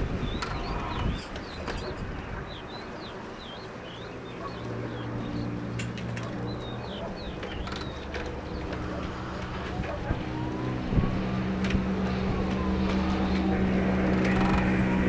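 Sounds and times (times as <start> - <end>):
low engine drone: 0.0 - 15.0
small birds chirping: 0.0 - 15.0.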